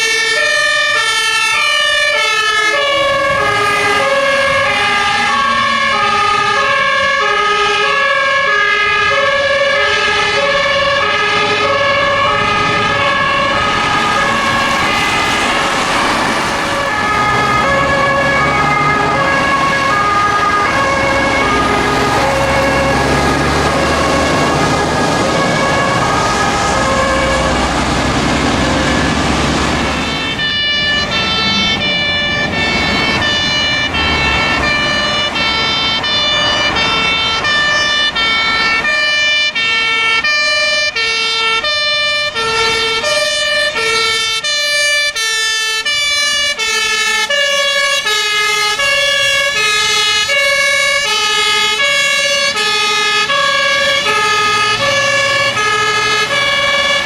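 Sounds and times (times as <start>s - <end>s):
truck engine: 0.0s - 57.0s.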